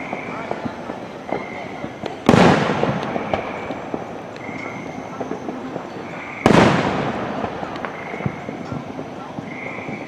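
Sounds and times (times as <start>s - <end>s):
firework bang: 0.0s - 10.0s
fireworks crackling: 0.0s - 10.0s.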